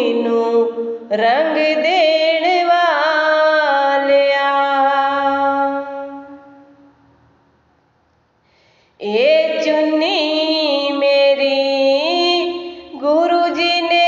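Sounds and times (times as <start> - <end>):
person singing devotional song: 0.0 - 6.9, 8.9 - 14.0.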